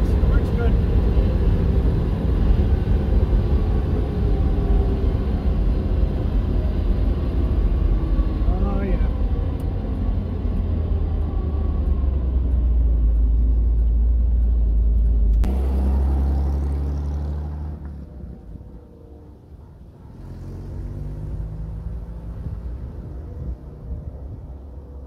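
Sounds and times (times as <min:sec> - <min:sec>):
car driving away: 0:00.0 - 0:25.0
car engine and road rumble: 0:00.0 - 0:25.0.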